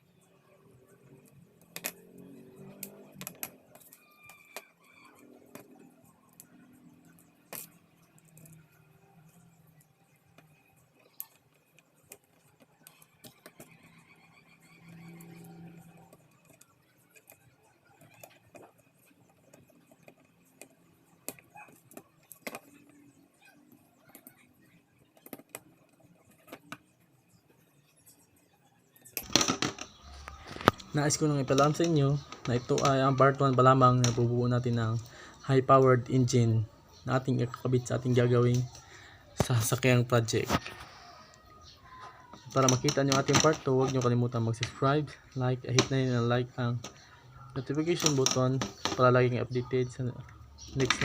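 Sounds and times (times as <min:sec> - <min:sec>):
small plastic parts clicking: 0:01.0 - 0:23.1, 0:23.7 - 0:27.0, 0:29.0 - 0:51.0.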